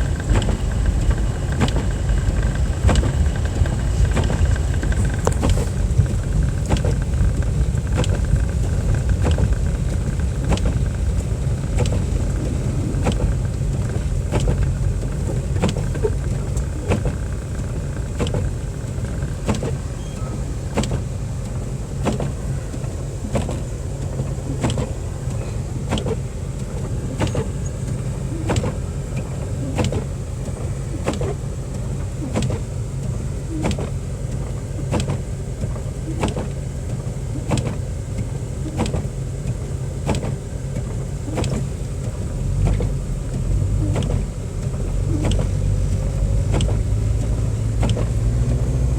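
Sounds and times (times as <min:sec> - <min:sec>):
road and engine rumble: 0:00.0 - 0:48.9
windshield wipers knocking: 0:00.0 - 0:48.9.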